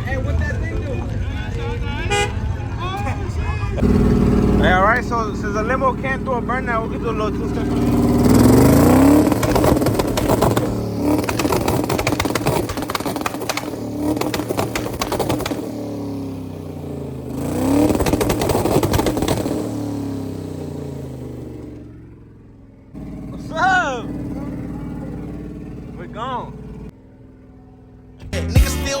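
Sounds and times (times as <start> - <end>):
exhaust pops crackling: 0.0 - 29.0
car engine revving: 1.9 - 29.0.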